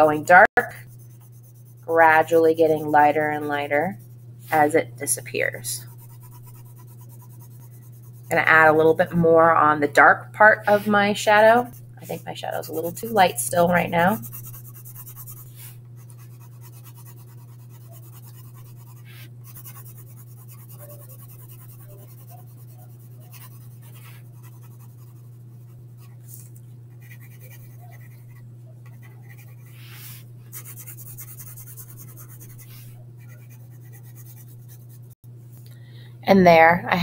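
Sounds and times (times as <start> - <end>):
low steady hum: 0.0 - 37.0
pencil scratching on paper: 0.1 - 9.2, 10.7 - 35.0.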